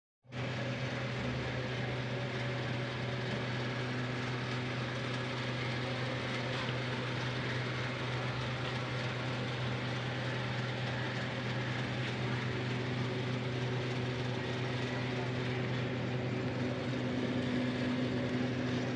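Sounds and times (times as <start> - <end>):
low mechanical hum: 0.3 - 18.9.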